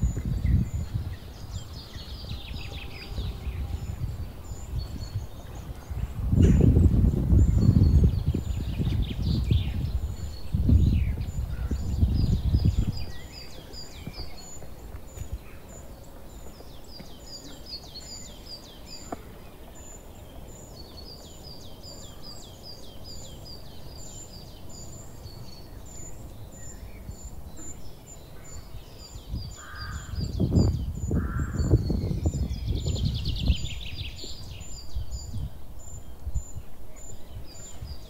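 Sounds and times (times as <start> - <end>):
small songbirds singing: 0.0 - 38.0.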